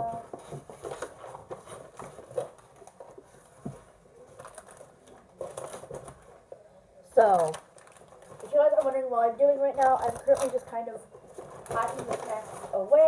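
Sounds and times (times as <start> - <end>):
plastic wrappers rustling: 0.0 - 6.4, 7.2 - 13.0.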